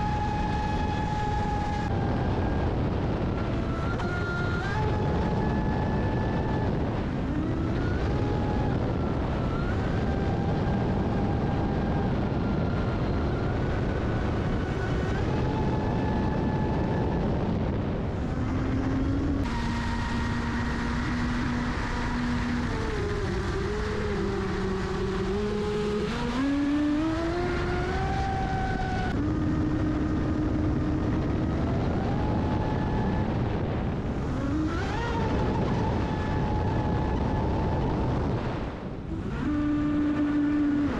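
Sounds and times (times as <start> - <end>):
electric motor whining: 0.0 - 40.9
wind: 0.0 - 40.9.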